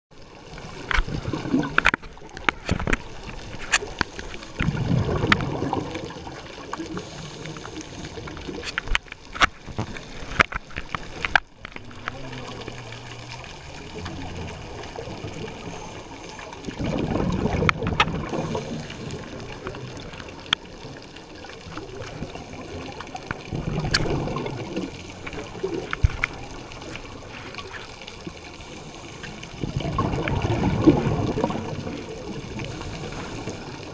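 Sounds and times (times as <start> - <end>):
bubbles gurgling from regulator: 0.2 - 9.0, 9.7 - 33.9.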